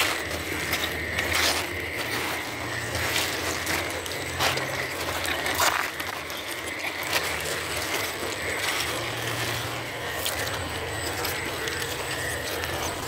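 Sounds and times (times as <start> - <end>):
toy car drivetrain whining: 0.0 - 13.0.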